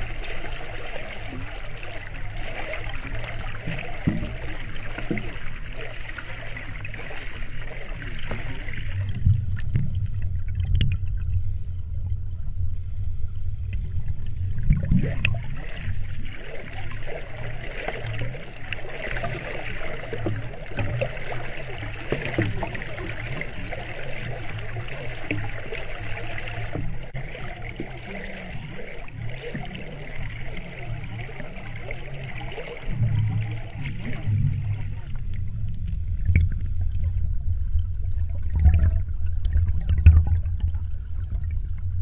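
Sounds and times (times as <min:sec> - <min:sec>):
stream water heard underwater: 0:00.0 - 0:42.0.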